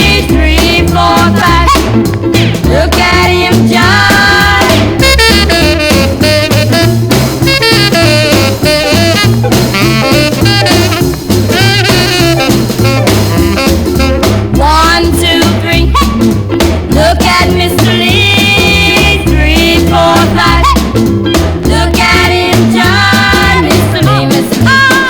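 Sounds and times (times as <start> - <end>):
rhythm and blues music with horns: 0.0 - 25.0.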